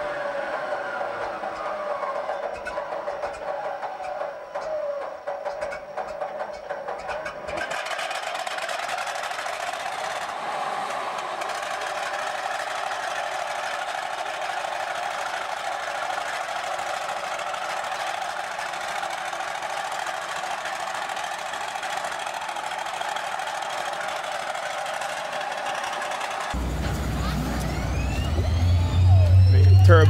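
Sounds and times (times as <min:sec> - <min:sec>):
tank engine idling: 0:00.0 - 0:30.0.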